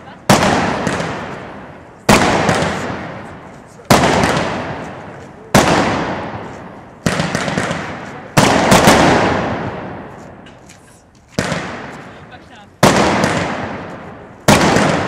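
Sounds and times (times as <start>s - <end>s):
firework bangs with echo: 0.0s - 10.6s, 11.3s - 15.0s.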